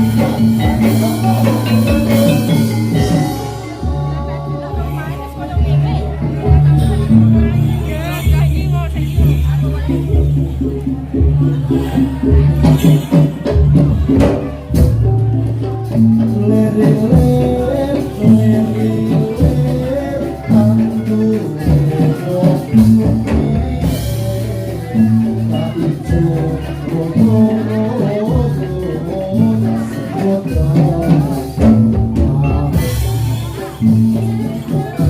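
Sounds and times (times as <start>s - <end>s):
gamelan metallophone melody: 0.0s - 35.0s
sharp drum strokes: 0.0s - 35.0s.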